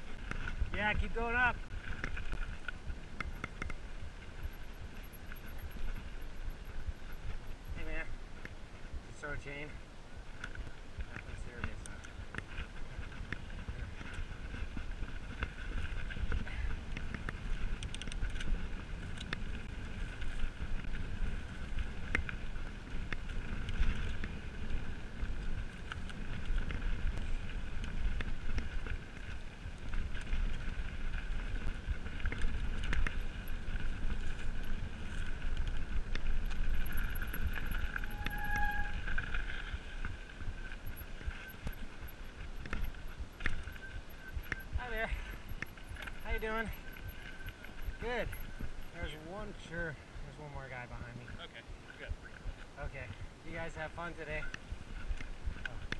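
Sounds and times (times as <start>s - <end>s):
bike rattling and clicking: 0.0s - 51.3s, 52.0s - 55.9s
bike tyres on dirt: 0.0s - 55.9s
wind rumbling on microphone: 0.0s - 55.9s.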